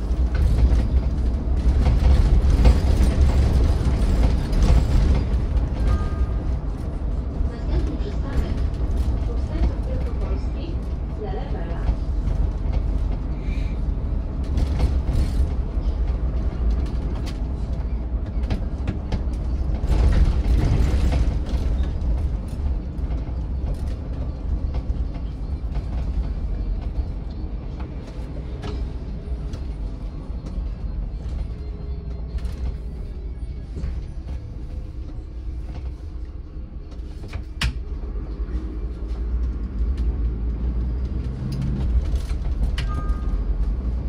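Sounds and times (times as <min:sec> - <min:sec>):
bus engine and road rumble: 0:00.0 - 0:44.0
creaks and rattles of bus body: 0:00.0 - 0:44.0.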